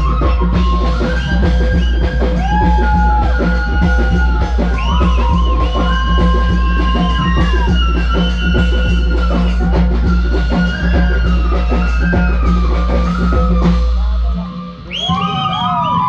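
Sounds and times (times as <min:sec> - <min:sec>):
deep bass: 0:00.0 - 0:15.9
driving drumming: 0:00.0 - 0:16.0.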